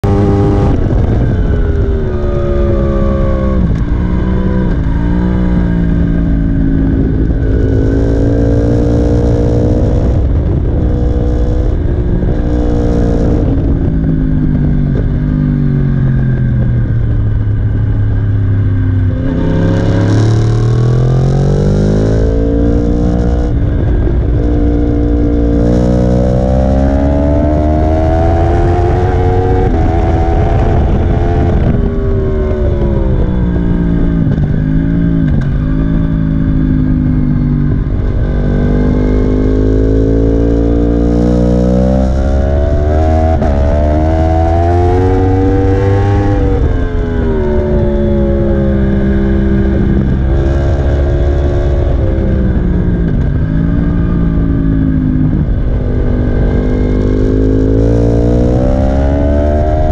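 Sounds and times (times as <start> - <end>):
motorcycle engine accelerating: 0.0 - 59.9
wind buffeting microphone: 0.0 - 59.9.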